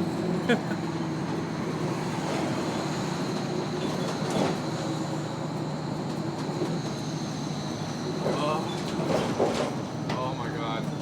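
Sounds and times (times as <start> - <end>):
truck road rumble: 0.0 - 11.0.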